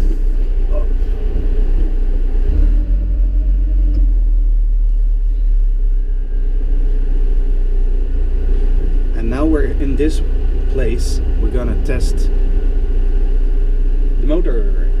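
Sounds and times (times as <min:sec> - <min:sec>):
car engine rumbling in garage: 0:00.0 - 0:15.0.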